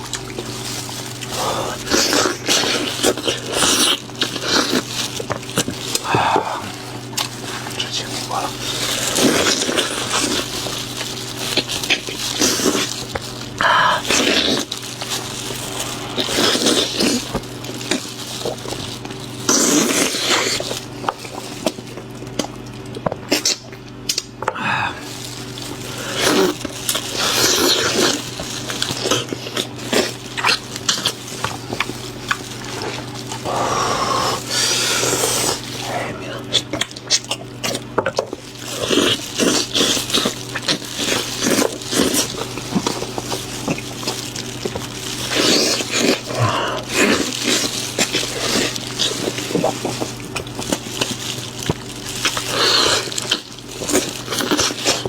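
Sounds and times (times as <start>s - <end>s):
steady low hum: 0.0s - 55.0s
wet chewing and slurping: 0.0s - 55.0s.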